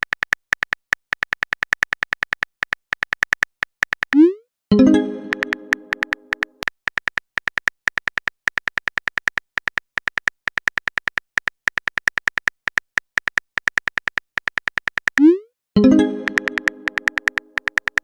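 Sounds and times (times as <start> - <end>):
electronic keyboard typing clicks: 0.0 - 18.0.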